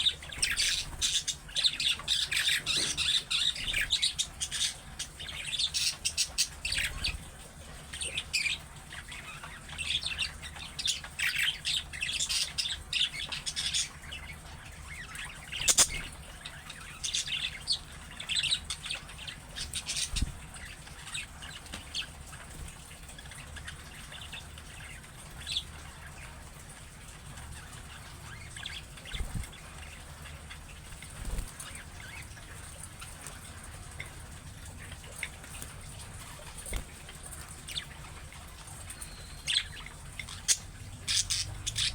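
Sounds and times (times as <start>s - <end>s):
budgerigars chirping: 0.0s - 7.2s, 7.9s - 26.3s, 27.6s - 33.2s, 37.7s - 41.9s.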